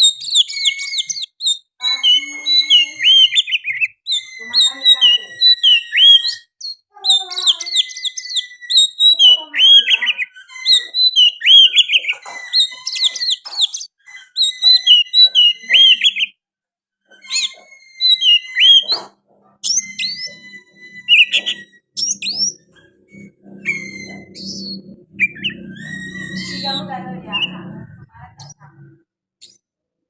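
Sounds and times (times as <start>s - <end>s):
bird singing whistled phrases: 0.0s - 16.3s, 17.1s - 28.6s.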